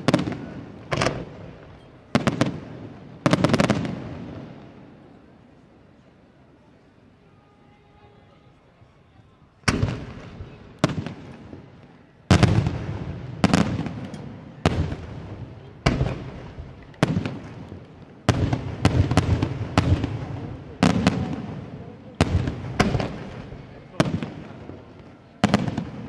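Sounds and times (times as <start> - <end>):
fireworks bangs with echo: 0.0 - 5.1, 9.6 - 26.0.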